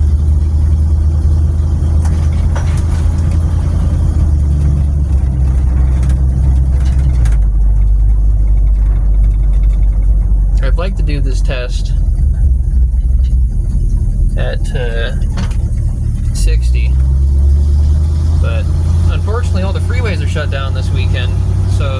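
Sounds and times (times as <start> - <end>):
car engine droning in cabin: 0.0 - 21.9.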